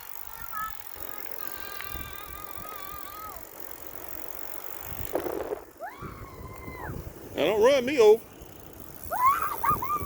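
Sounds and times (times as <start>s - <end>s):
bicycle tyres rumbling: 0.0s - 10.0s.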